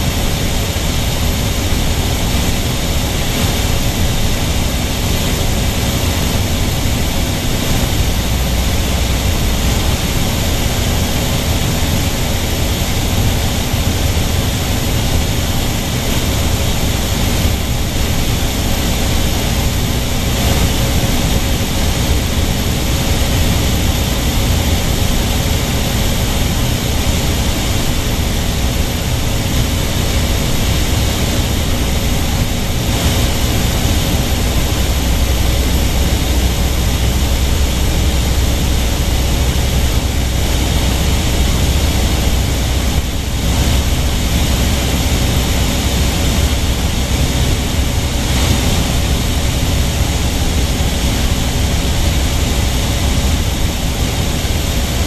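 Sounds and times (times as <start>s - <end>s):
propeller airplane engine droning: 0.0s - 55.0s.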